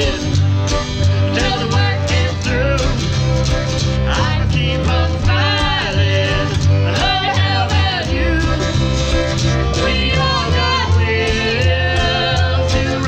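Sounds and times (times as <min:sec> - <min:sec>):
song with singing voice: 0:00.0 - 0:13.0.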